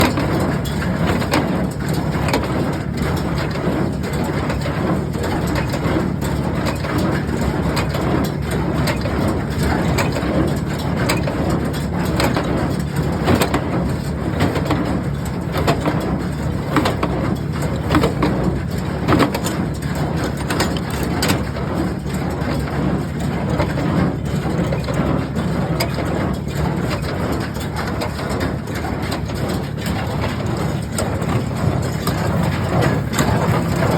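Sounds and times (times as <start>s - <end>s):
baler mechanism clacking: 0.0s - 33.9s
tractor engine drone: 0.0s - 33.9s.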